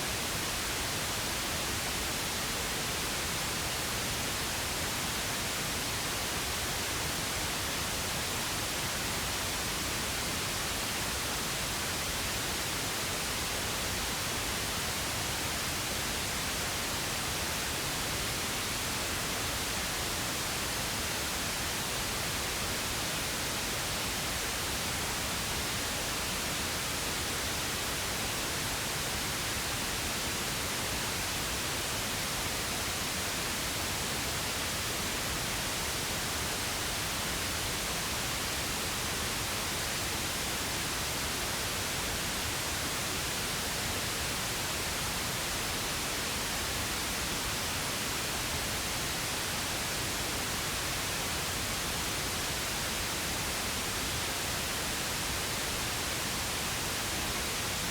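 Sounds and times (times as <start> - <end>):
pink noise hiss: 0.0 - 57.9.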